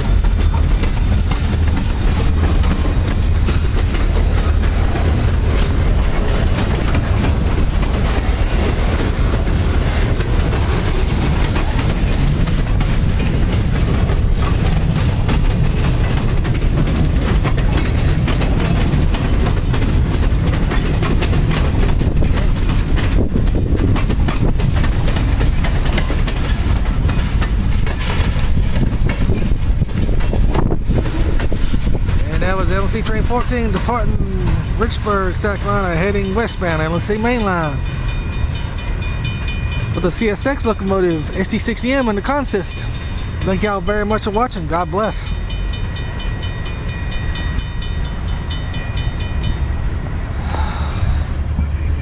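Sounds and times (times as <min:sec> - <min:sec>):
wheels clacking over rail joints: 0:00.0 - 0:50.2
freight train rumble: 0:00.0 - 0:52.0.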